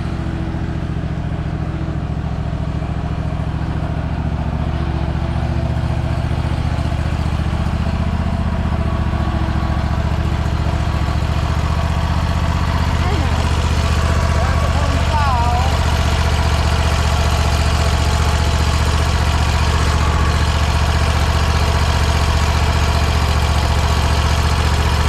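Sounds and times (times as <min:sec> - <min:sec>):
lawn mower engine idling: 0:00.0 - 0:25.0.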